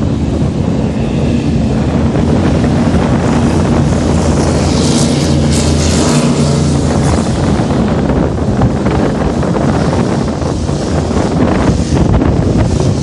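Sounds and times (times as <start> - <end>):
boat engine hum: 0.0 - 13.0
hissing rush: 0.0 - 13.0
wind buffeting microphone: 0.0 - 13.0.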